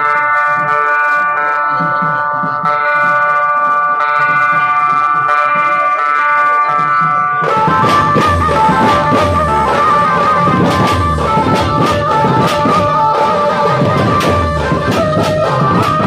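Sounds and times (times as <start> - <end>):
band procession music over speakers: 0.0 - 16.0
drums and deep bass beats: 0.0 - 16.0
stepping melody: 0.0 - 16.0.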